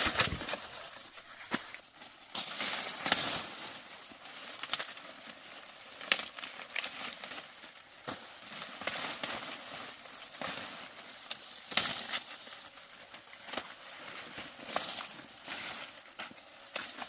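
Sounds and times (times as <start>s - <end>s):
dry plant material rustling: 0.0s - 17.0s.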